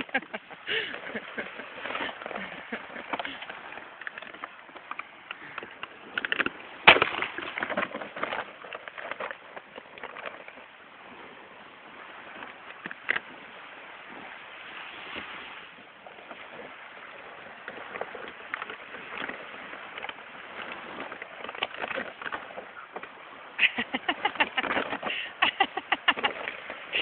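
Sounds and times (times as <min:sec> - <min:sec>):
small waves washing on sand: 0:00.0 - 0:27.0.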